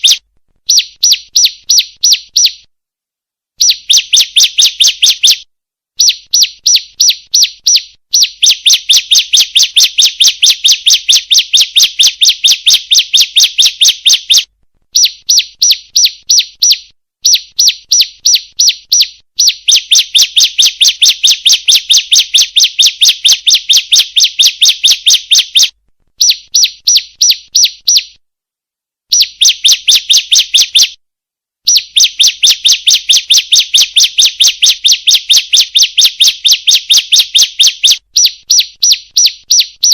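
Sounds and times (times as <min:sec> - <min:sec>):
bird rapid sharp chirps: 0:00.0 - 0:02.7, 0:03.6 - 0:28.2, 0:29.1 - 0:31.0, 0:31.7 - 0:39.9.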